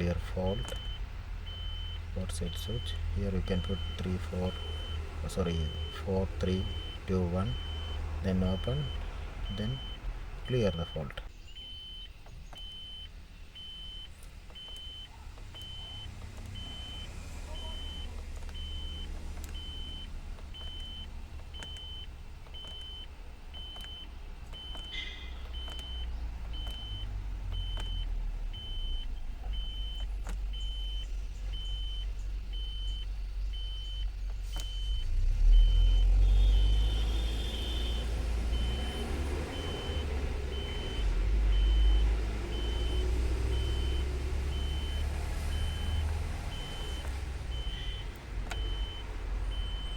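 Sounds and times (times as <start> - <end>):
truck warning beeper: 0.0 - 49.9.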